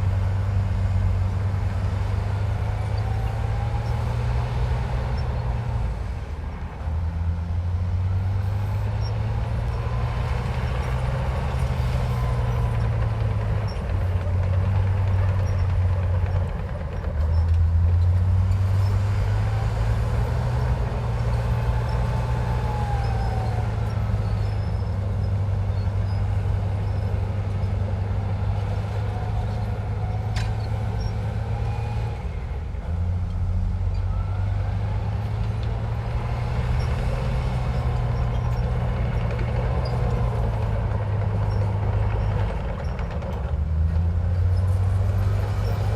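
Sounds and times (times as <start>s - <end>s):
bulldozer diesel engine working: 0.0s - 45.9s.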